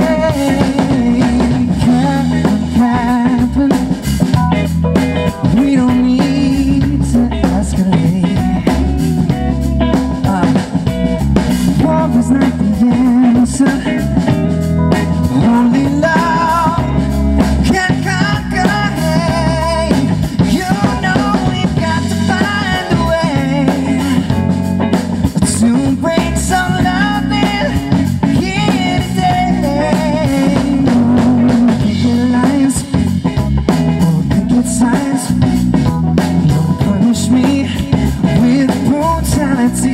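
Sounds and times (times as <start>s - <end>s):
person singing: 0.0s - 4.5s, 5.2s - 10.9s, 11.7s - 24.6s, 25.3s - 39.9s
bass guitar: 0.0s - 39.9s
drum kit: 0.0s - 39.9s
electric guitar: 0.0s - 39.9s.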